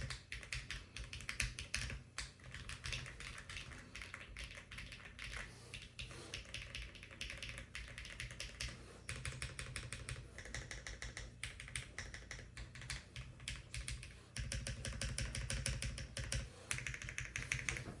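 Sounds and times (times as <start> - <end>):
fast mechanical keyboard clicks: 0.0 - 17.9.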